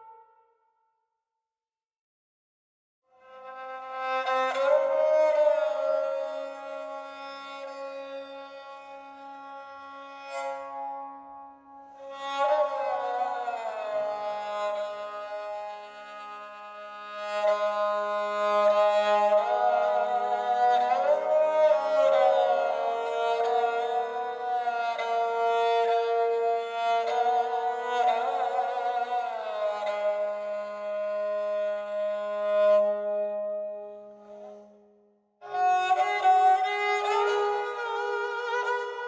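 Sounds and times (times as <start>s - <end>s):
bowed string melody: 3.3s - 34.8s, 35.4s - 39.0s.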